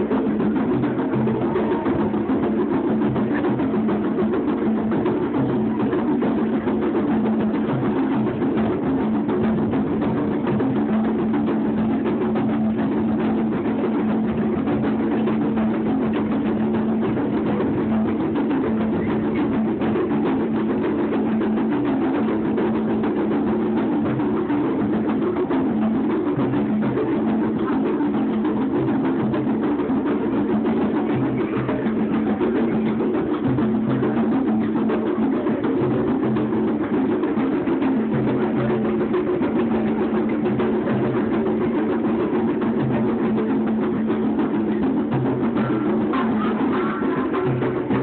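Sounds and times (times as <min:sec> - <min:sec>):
hand drums playing: 0:00.0 - 0:48.0.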